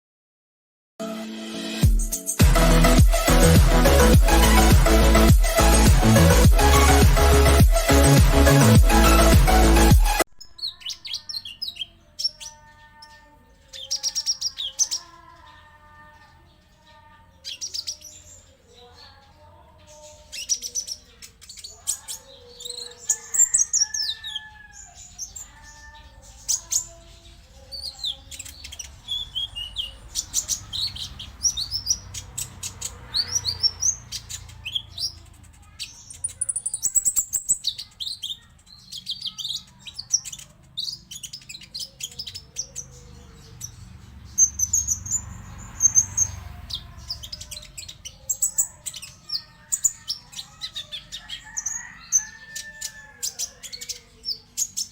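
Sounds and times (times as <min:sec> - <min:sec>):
songbirds chirping and whistling: 0:01.9 - 0:54.9.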